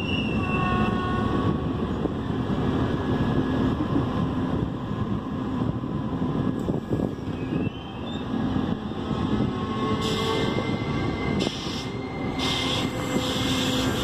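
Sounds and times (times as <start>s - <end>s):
trains rumbling on rails: 0.0s - 14.0s.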